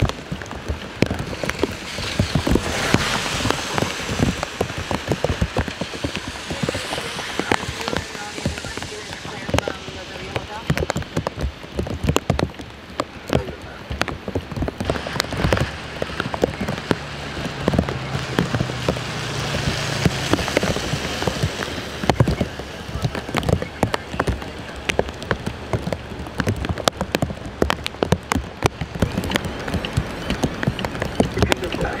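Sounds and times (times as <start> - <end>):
rain on wet pavement: 0.0 - 32.0.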